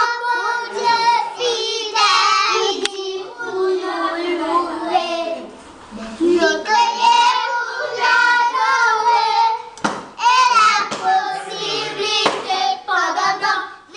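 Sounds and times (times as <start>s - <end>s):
children singing: 0.0s - 5.6s, 6.3s - 13.9s.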